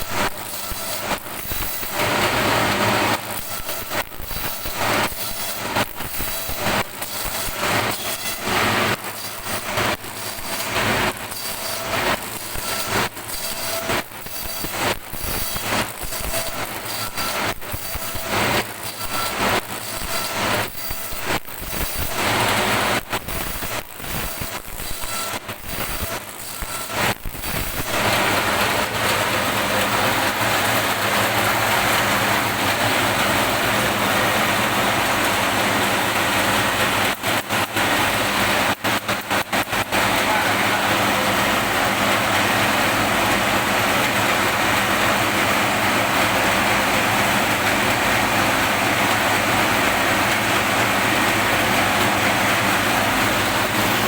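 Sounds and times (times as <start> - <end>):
machine whirring: 0.0 - 54.0.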